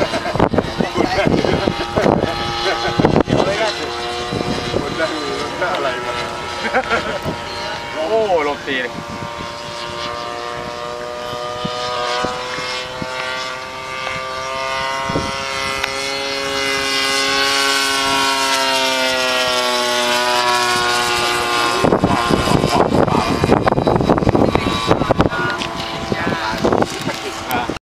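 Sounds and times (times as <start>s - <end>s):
propeller plane engine droning: 0.0s - 27.8s
wind buffeting microphone: 0.0s - 27.8s.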